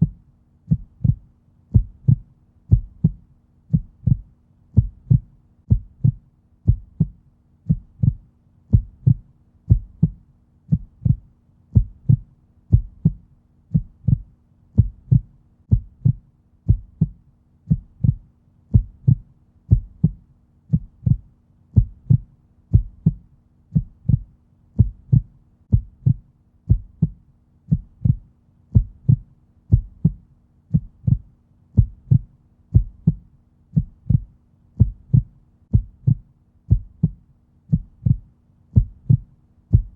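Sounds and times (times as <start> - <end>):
faint steady hum: 0.0 - 39.9
heartbeat thumps: 0.0 - 39.9.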